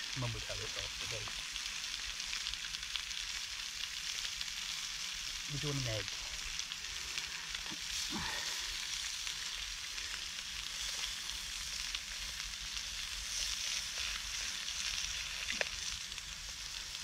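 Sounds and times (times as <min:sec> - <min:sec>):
sausages sizzling in a pan: 0:00.0 - 0:17.0.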